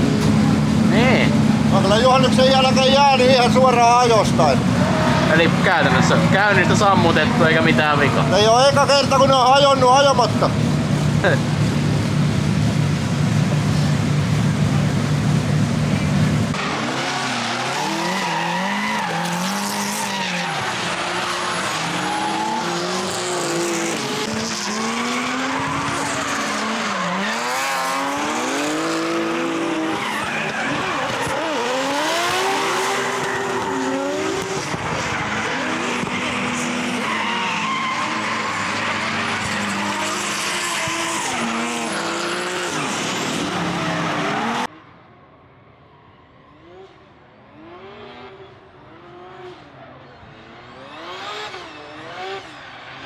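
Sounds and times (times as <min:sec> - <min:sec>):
car engine revving: 0:00.0 - 0:44.7
tyres skidding: 0:00.0 - 0:44.7.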